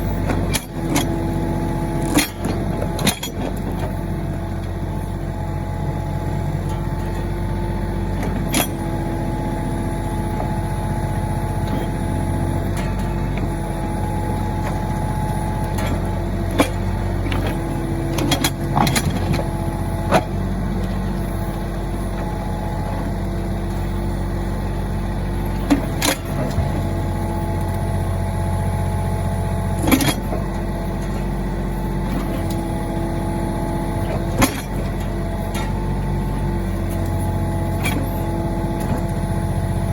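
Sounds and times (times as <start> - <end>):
backhoe knocks and clanks: 0.0 - 39.9
tractor diesel engine running: 0.0 - 39.9.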